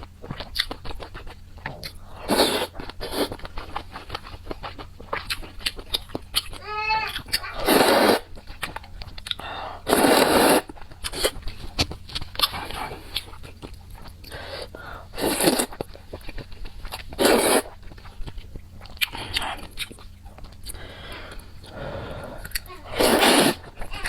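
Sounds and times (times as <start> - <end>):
chewing and crunching: 0.0 - 24.0.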